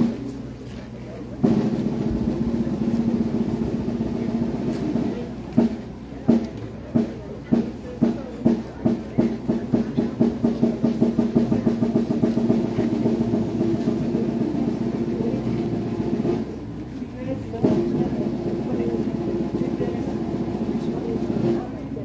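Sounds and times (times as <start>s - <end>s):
drum strokes and roll: 0.0s - 22.0s.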